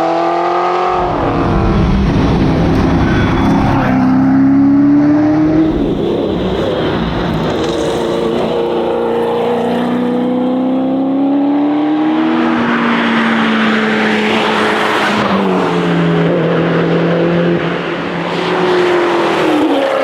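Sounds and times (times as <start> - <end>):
car engine at speed: 0.0 - 20.0
road and wind noise: 0.0 - 20.0.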